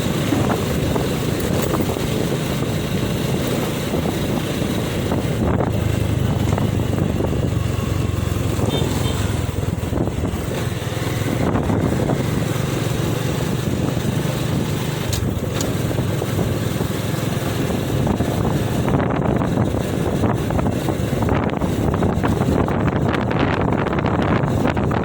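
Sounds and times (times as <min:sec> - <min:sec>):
heavy trucks rumbling: 0:00.0 - 0:25.0
wind buffeting microphone: 0:00.0 - 0:25.0.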